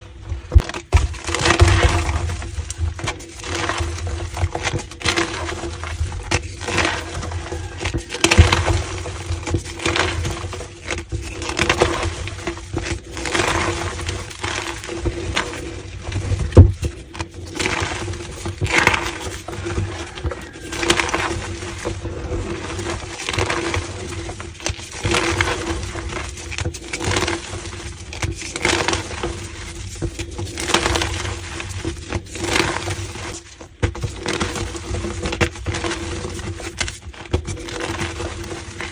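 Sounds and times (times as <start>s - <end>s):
chalk being crushed: 0.4s - 38.9s.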